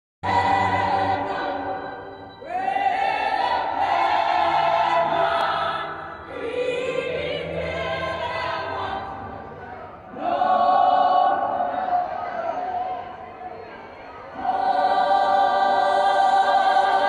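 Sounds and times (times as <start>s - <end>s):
church choir singing: 0.2s - 17.0s.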